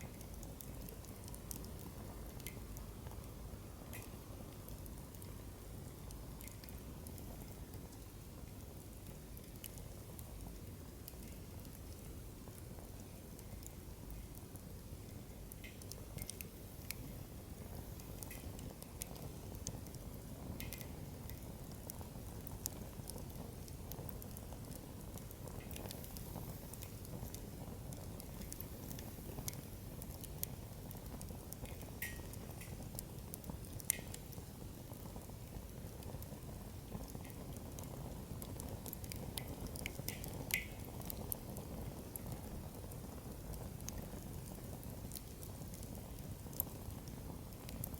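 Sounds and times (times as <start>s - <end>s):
fire low rumble: 0.0s - 47.9s
firewood crackling and popping: 0.0s - 47.9s.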